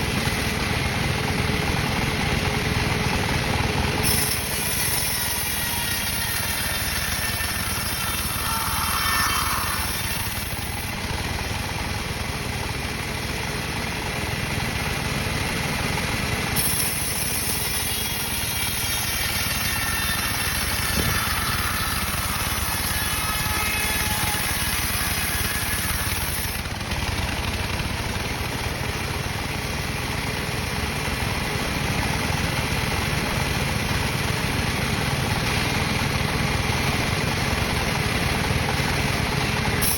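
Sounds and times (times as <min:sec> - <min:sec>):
machine saw engine droning: 0:00.0 - 0:39.9.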